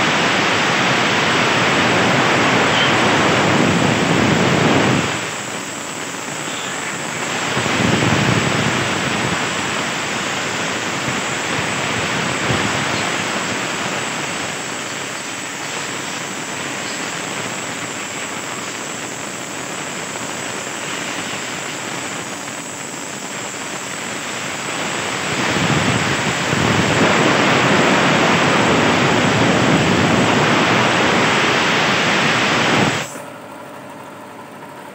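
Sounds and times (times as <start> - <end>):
compressed air blow gun hissing: 0.0 - 33.2.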